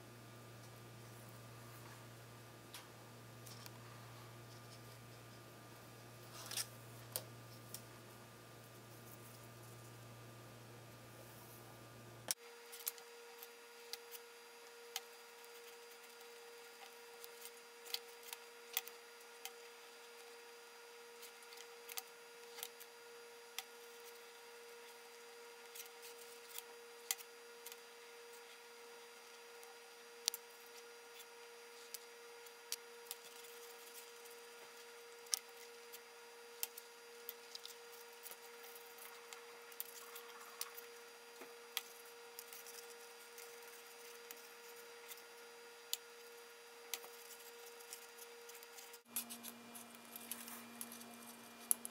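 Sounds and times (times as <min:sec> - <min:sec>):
faint electrical hum: 0:00.0 - 0:51.9.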